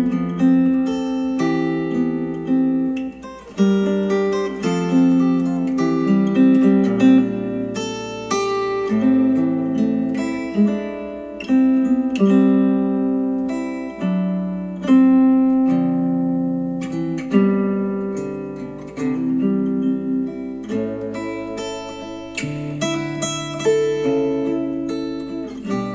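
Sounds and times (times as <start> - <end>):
slow acoustic guitar music: 0.0 - 25.9.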